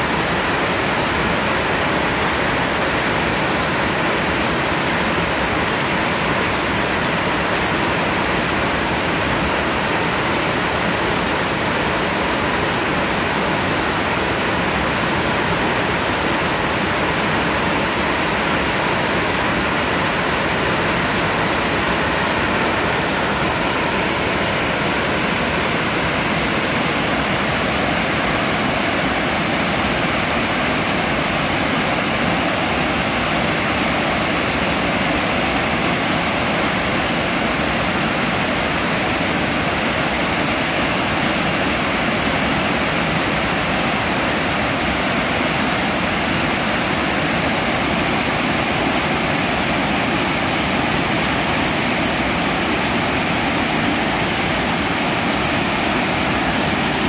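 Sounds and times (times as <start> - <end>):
waterfall rushing water: 0.0 - 57.0.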